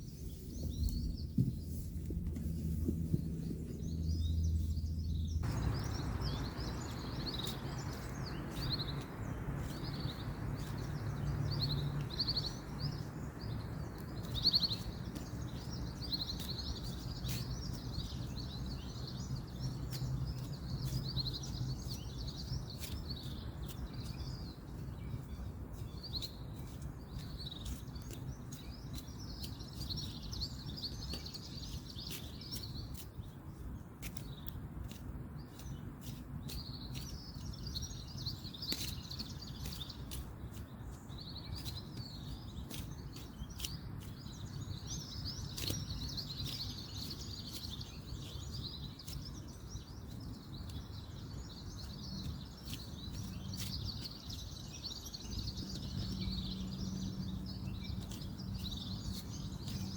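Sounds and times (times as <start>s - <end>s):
small birds chirping: 0.0s - 59.9s
distant road traffic rumble: 1.2s - 33.0s, 36.6s - 59.9s.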